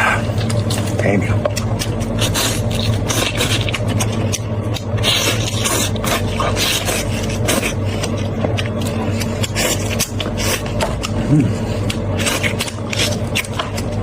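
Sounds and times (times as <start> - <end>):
person chewing meat: 0.0 - 14.0
steady low hum: 0.0 - 14.0.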